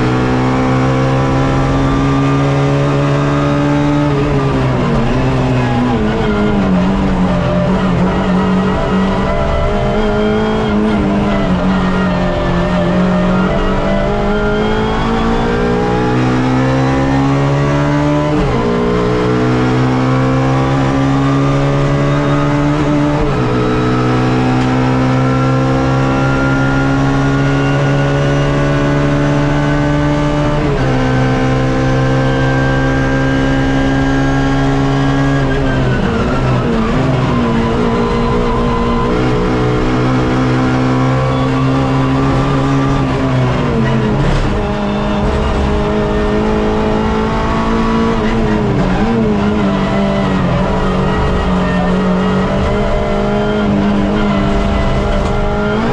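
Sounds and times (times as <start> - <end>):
race car engine accelerating: 0.0 - 55.9.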